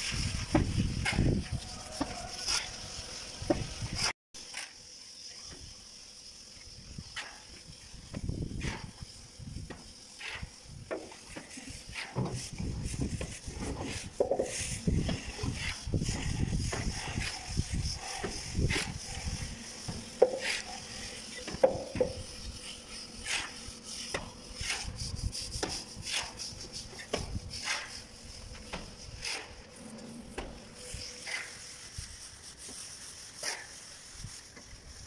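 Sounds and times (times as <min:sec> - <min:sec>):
trowel scraping mortar: 0:00.0 - 0:02.9, 0:07.0 - 0:07.6, 0:08.4 - 0:35.0.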